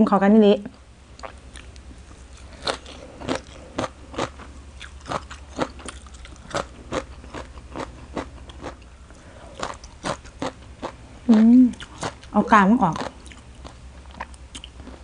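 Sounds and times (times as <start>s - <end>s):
low steady hum: 0.0s - 15.0s
crunchy chewing: 1.2s - 15.0s.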